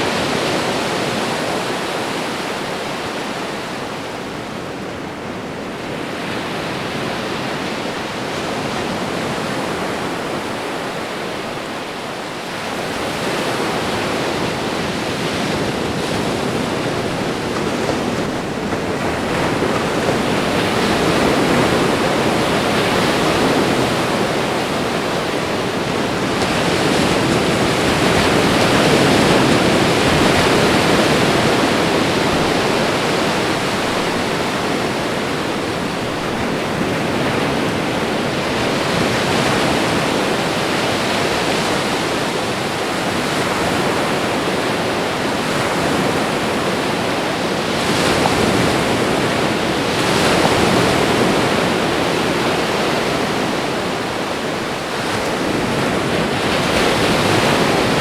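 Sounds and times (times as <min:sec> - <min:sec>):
ocean surf washing ashore: 0:00.0 - 0:58.0.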